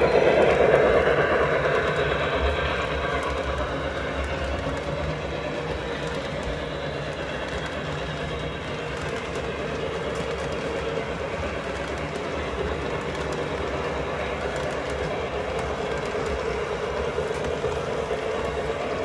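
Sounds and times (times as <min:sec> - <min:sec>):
model train wheels rumbling: 0:00.0 - 0:19.0.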